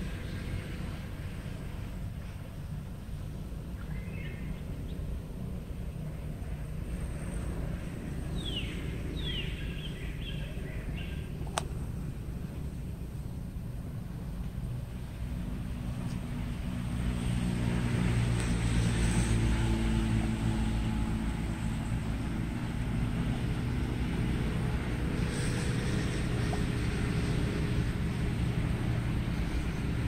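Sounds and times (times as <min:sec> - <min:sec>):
distant engine droning: 0:00.0 - 0:30.0.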